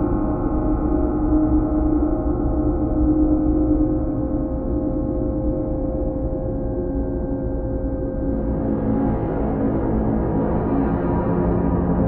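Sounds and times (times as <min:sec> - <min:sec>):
constant low rumble: 0:00.0 - 0:12.0.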